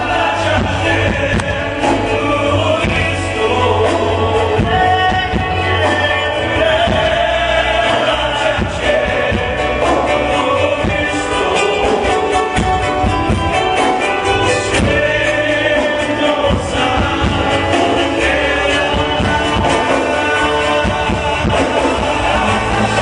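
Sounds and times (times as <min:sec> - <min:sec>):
band accompaniment: 0:00.0 - 0:23.0
choir singing: 0:00.0 - 0:23.0.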